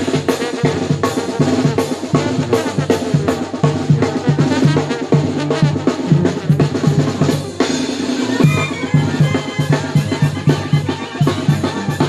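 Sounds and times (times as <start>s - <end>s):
snare and bass drum beat: 0.0s - 12.0s.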